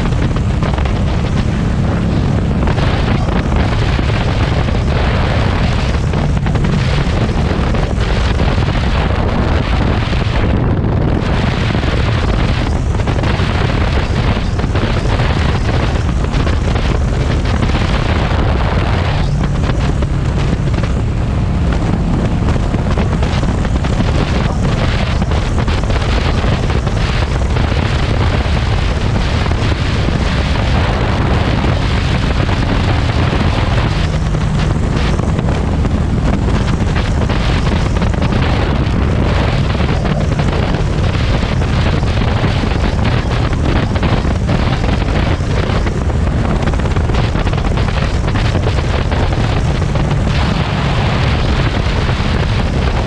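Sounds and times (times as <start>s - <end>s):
motorcycle engine rumbling: 0.0s - 53.0s
wind buffeting microphone: 0.0s - 53.0s.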